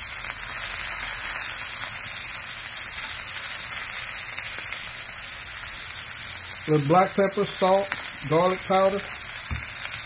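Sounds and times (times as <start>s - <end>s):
patties sizzling on griddle: 0.0s - 10.0s.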